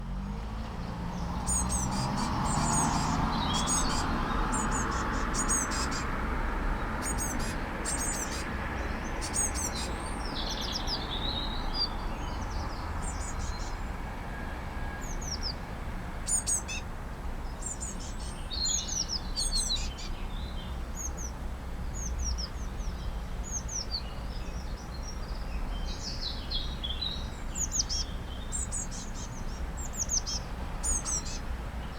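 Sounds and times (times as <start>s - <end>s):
birds chirping: 0.2s - 31.9s.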